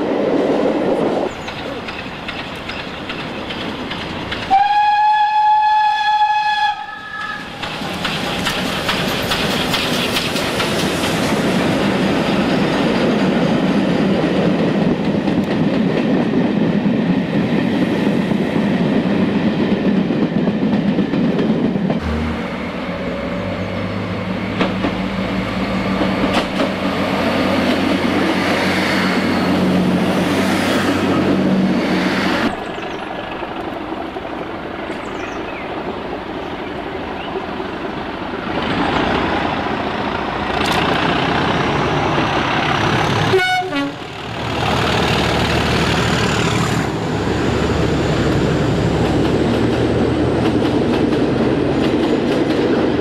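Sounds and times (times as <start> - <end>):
train rumbling: 0.0 - 53.0
train wheels rumbling over rails: 0.0 - 53.0
diesel train engine droning: 0.6 - 53.0.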